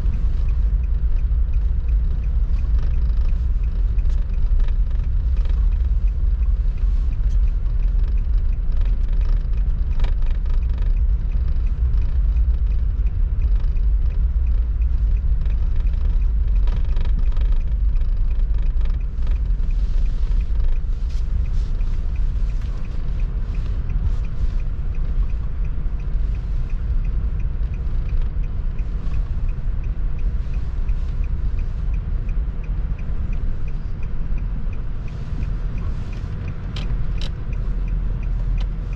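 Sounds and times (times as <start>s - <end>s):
car engine and tyres rumbling: 0.0s - 38.9s
faint clicks and knocks: 0.0s - 38.9s.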